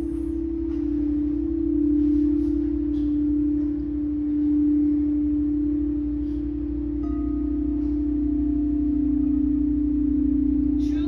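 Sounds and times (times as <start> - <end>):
singing bowl low tone: 0.0 - 11.0
singing bowl struck ringing: 0.0 - 11.0.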